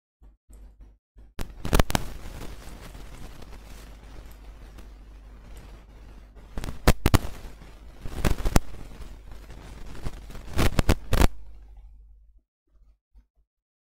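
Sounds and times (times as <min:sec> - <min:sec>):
low steady hum: 0:00.5 - 0:12.4.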